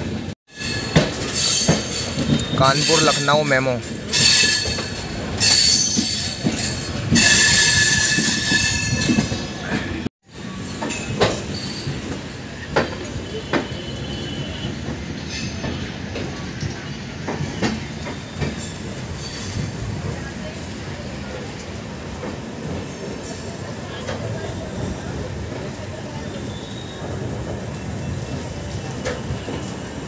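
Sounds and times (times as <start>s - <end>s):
train rolling noise: 0.0s - 30.0s
train wheels squealing: 0.0s - 30.0s.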